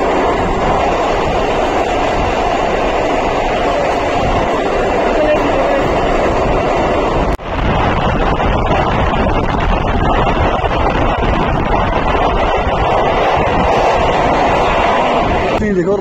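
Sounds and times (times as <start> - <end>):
train running in tunnel: 0.0 - 16.0
wind buffeting microphone: 0.0 - 16.0.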